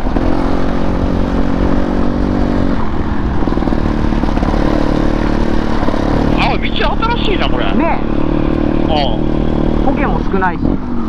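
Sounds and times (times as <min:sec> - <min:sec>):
motorcycle engine running under load: 0:00.0 - 0:11.0
road and wind noise: 0:00.0 - 0:11.0.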